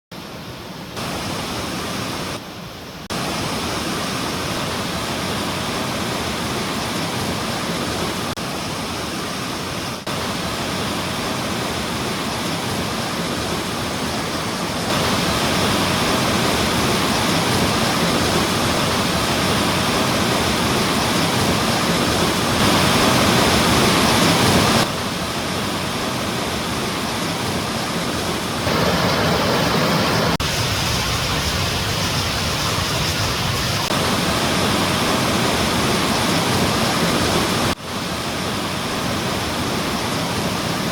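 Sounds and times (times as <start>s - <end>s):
stream rushing over rocks: 0.1s - 40.9s.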